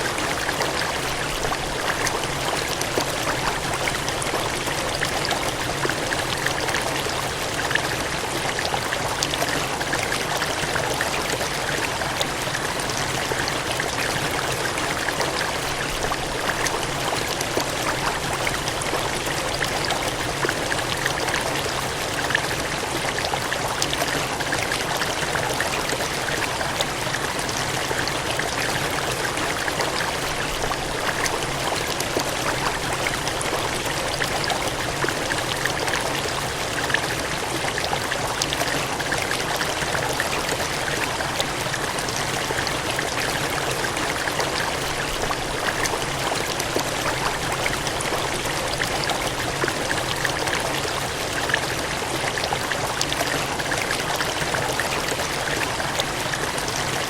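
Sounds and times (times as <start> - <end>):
water gushing and cascading: 0.0 - 57.0.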